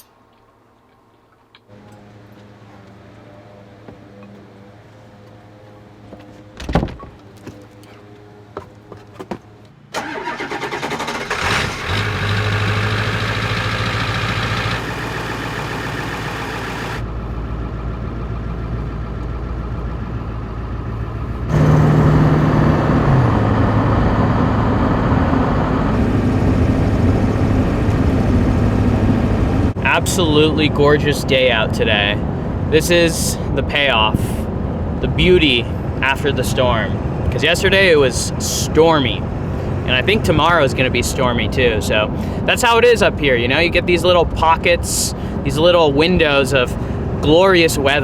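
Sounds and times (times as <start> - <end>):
truck engine starting and running: 9.5 - 48.0.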